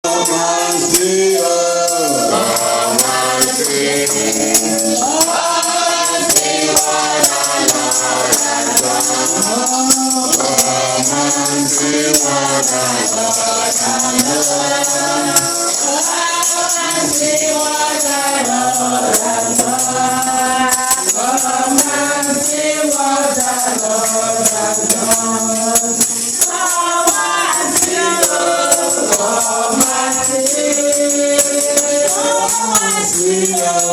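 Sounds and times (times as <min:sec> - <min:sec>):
choir singing: 0:00.0 - 0:33.9
tambourine beat: 0:00.0 - 0:33.9.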